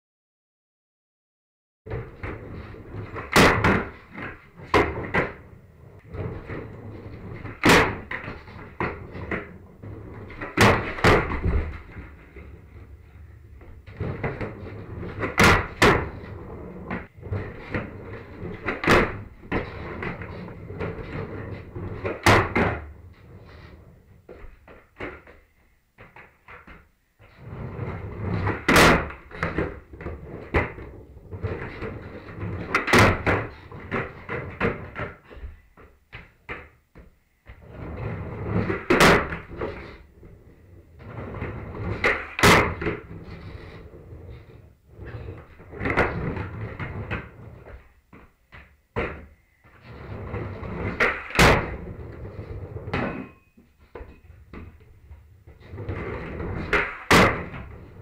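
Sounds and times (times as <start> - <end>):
skateboard clacking on floor: 1.9 - 58.0
skateboard wheels rumbling on wood: 1.9 - 58.0.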